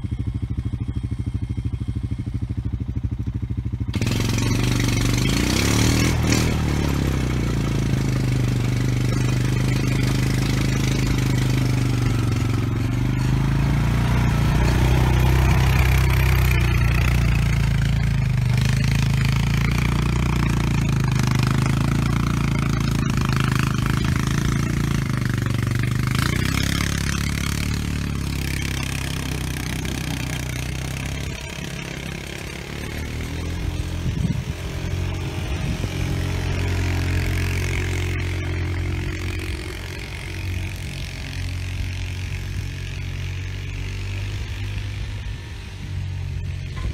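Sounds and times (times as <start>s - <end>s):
atv engine running under load: 0.0s - 46.9s.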